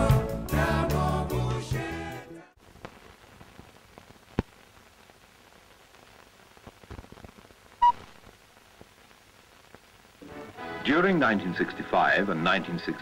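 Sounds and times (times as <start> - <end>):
old film soundtrack hiss and crackle: 0.0 - 13.0.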